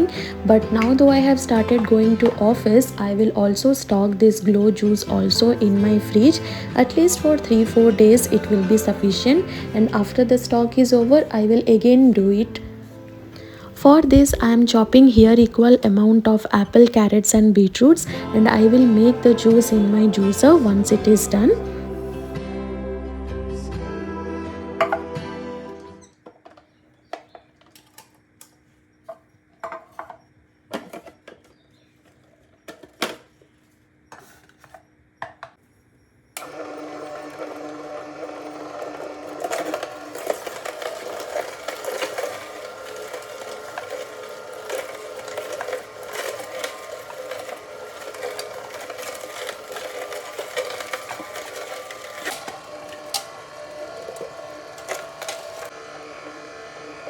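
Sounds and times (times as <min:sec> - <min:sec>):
electric juicer running: 0:00.0 - 0:28.5, 0:29.1 - 0:31.6, 0:36.4 - 0:57.0.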